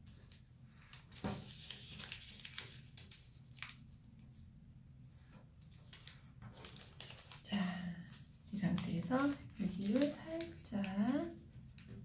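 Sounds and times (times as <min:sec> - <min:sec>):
paper rustling and crinkling: 0:00.0 - 0:04.4, 0:05.2 - 0:12.0.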